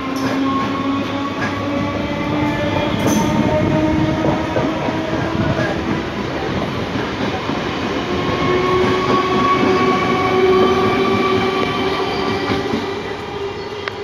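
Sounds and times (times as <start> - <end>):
train wheels rumbling and clattering: 0.0 - 14.0.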